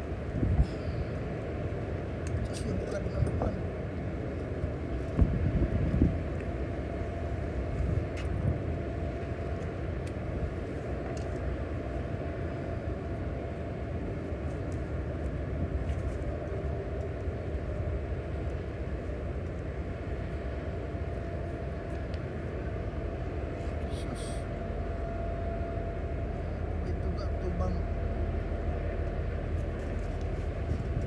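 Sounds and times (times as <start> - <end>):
low mechanical rumble: 0.0 - 31.0.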